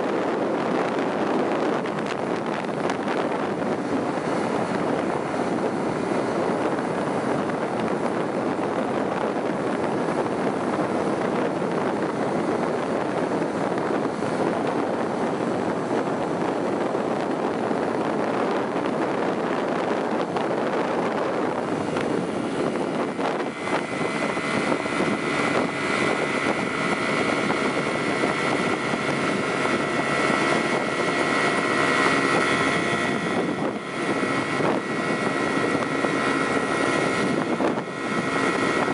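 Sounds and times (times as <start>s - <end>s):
vehicle interior rumble: 0.0s - 38.9s.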